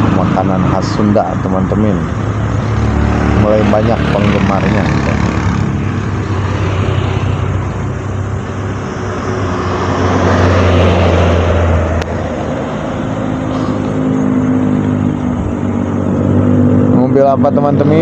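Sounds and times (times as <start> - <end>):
engine approaching: 0.0 - 18.0
vehicle passing close by: 0.0 - 18.0.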